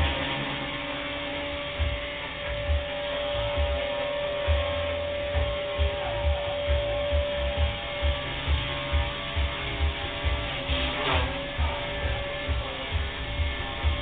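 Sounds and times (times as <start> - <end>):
rc helicopter motor whine: 0.0 - 14.0
dull low thumps: 1.8 - 14.0.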